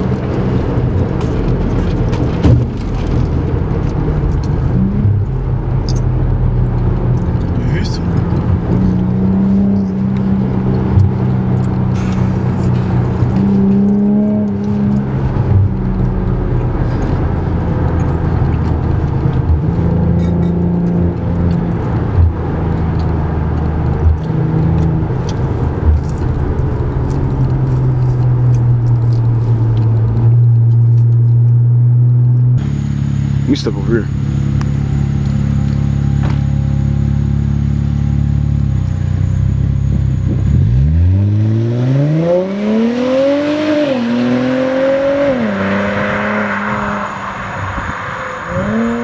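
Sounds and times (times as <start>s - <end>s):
car exhaust note: 0.0s - 49.0s.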